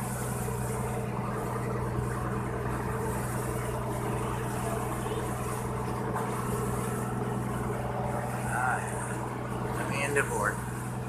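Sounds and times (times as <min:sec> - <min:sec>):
boat engine running: 0:00.0 - 0:11.0
water splashing along hull: 0:00.0 - 0:11.0.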